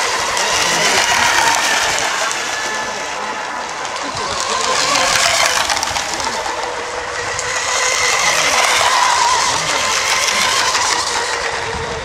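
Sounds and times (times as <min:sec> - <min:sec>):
model boat motor whining: 0:00.0 - 0:12.0
water spray and wind rushing: 0:00.0 - 0:12.0.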